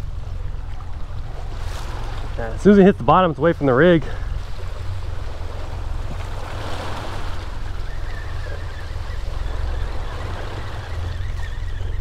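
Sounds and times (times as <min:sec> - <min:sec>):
water lapping and splashing: 0:00.0 - 0:12.0
wind rumble on microphone: 0:00.0 - 0:12.0.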